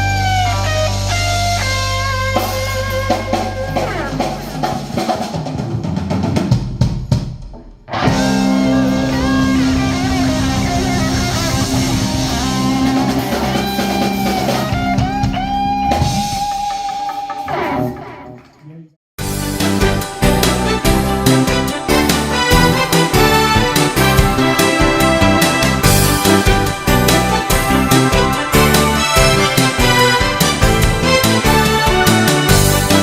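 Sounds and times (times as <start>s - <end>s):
live band playing: 0.0s - 5.8s, 8.0s - 18.2s, 19.2s - 33.0s.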